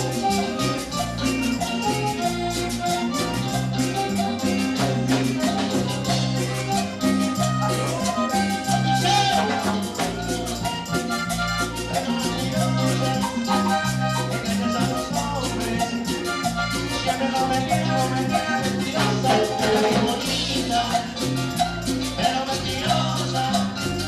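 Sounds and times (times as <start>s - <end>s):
bass line: 0.0s - 24.0s
latin dance band music: 0.0s - 24.0s
quick percussion: 0.0s - 24.0s.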